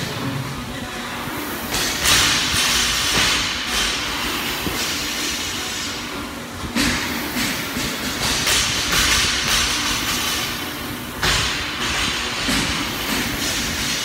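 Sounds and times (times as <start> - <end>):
rowing machine fan whooshing: 0.0 - 14.0.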